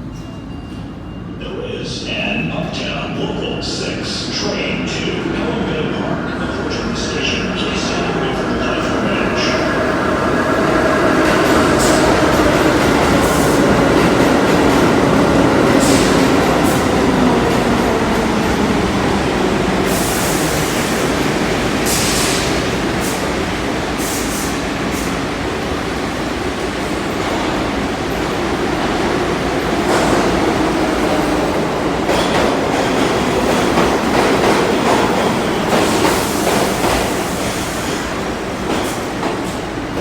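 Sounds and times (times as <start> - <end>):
subway train rumble: 0.0 - 40.0.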